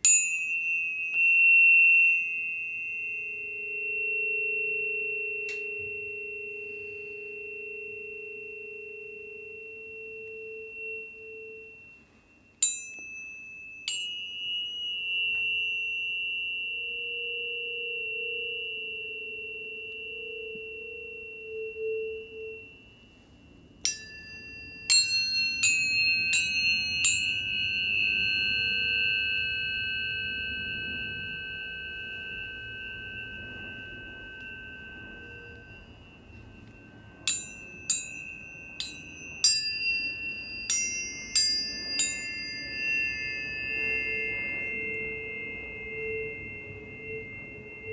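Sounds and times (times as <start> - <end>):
tuning fork strike taps: 0.0 - 7.1, 8.0 - 22.6, 23.8 - 47.9
tuning forks ringing: 0.0 - 47.9.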